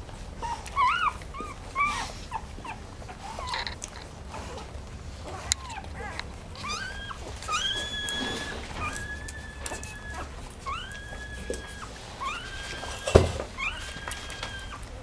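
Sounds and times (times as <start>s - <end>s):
dog whining: 0.4s - 15.0s.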